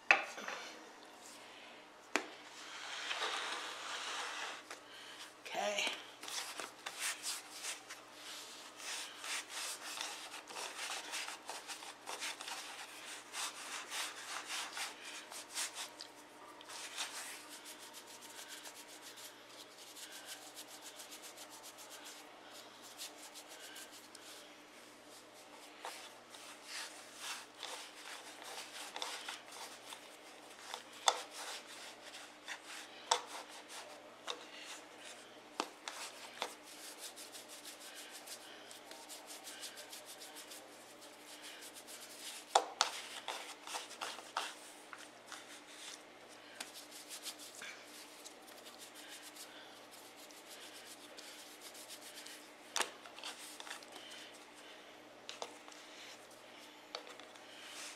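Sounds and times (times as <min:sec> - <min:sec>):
hands rubbing dough on wood: 0:02.5 - 0:05.3, 0:06.2 - 0:54.6.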